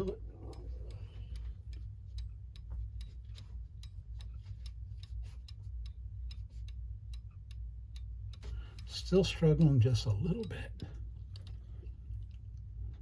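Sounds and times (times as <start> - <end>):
mechanical clock ticking: 0.0 - 13.0
steady low hum: 0.0 - 13.0.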